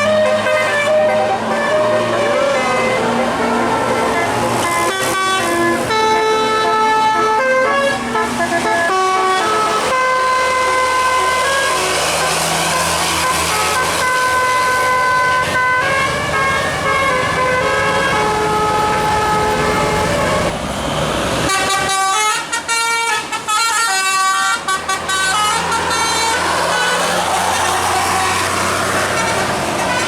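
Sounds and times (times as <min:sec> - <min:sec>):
musical air horn playing a tune: 0:00.0 - 0:20.5, 0:21.5 - 0:30.0
bus engine running: 0:00.0 - 0:30.0.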